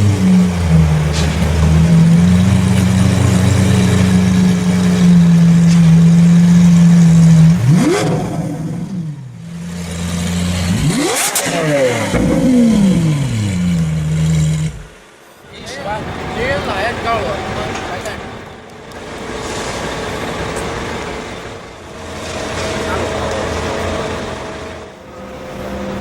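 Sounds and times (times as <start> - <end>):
sports car engine revving: 0.0 - 15.2, 15.9 - 26.0.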